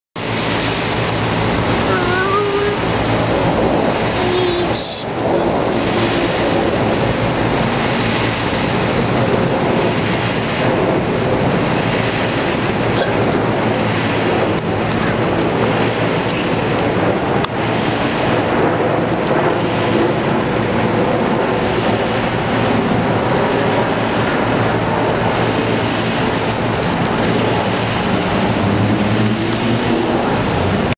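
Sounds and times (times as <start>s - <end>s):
jet airliner flying overhead: 0.2s - 30.9s.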